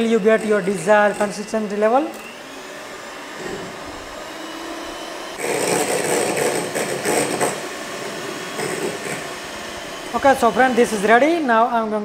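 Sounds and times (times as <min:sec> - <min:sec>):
electric hand mixer whipping cream: 0:00.0 - 0:12.0.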